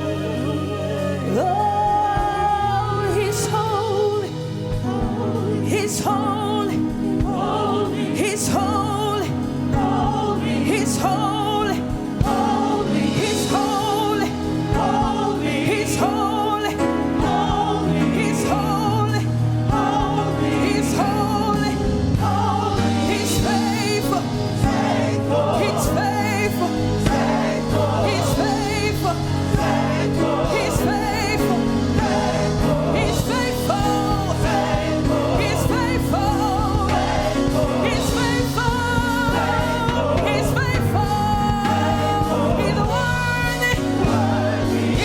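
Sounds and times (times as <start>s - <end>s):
bass and keyboard: 0.0s - 45.0s
voices singing with vibrato: 0.0s - 45.0s.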